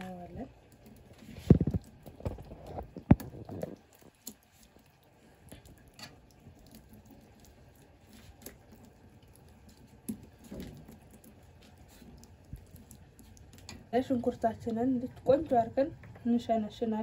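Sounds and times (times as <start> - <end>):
spoon scraping sauce on dough: 0.8 - 14.8.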